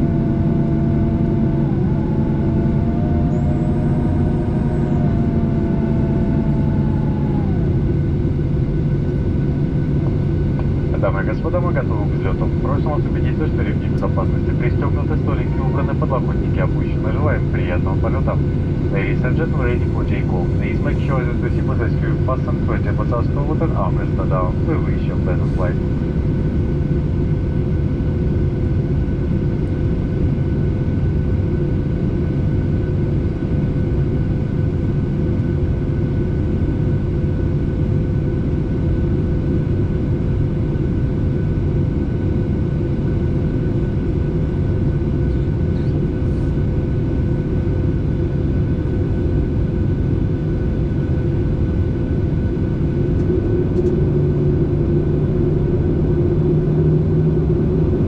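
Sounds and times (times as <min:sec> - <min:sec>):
airliner engines droning: 0:00.0 - 0:58.0
constant whining tones: 0:00.0 - 0:58.0.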